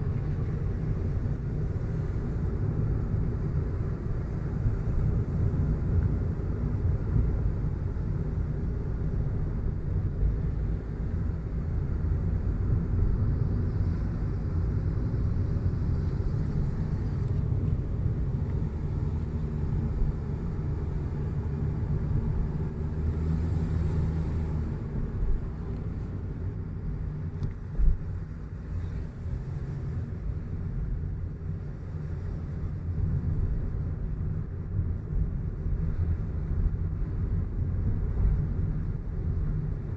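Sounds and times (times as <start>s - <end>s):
car driving along road: 0.0s - 39.9s.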